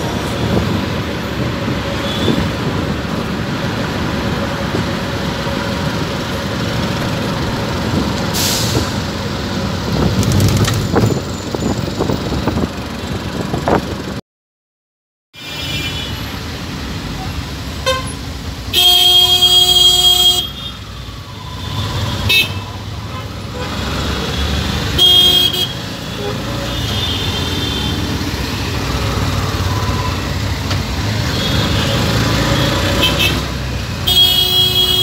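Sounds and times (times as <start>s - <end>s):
cars and motorbikes passing: 0.0s - 14.2s, 20.8s - 35.0s.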